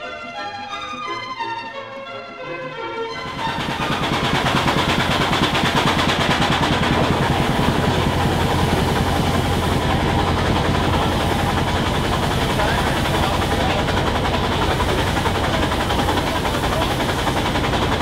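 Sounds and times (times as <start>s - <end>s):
low mechanical hum: 3.2s - 18.0s
steam engine clattering: 3.2s - 18.0s.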